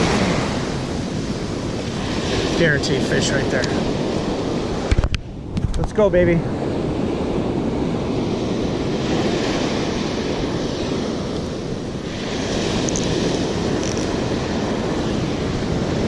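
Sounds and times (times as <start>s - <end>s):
ocean surf washing ashore: 0.0s - 16.0s
wind buffeting microphone: 0.0s - 16.0s.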